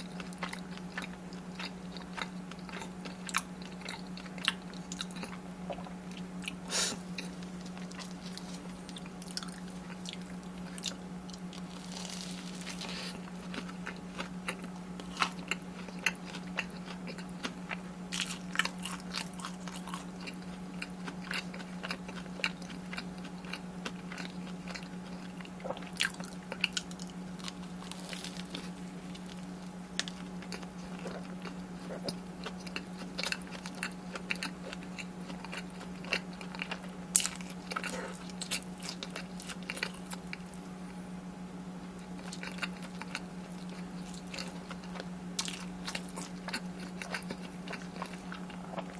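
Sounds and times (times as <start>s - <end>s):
crunching and chewing food: 0.0s - 48.9s
steady low hum: 0.0s - 48.9s.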